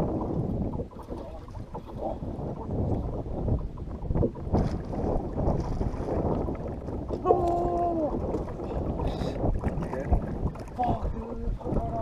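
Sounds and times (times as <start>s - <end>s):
choppy water against boat: 0.0s - 12.0s
wind on microphone: 0.0s - 12.0s.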